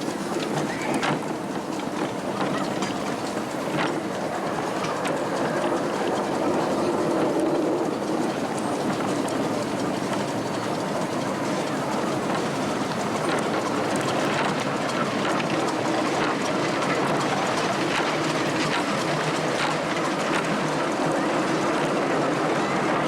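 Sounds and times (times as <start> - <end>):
miniature train rumbling: 0.0 - 23.0
wheels clicking on rails: 0.0 - 23.0.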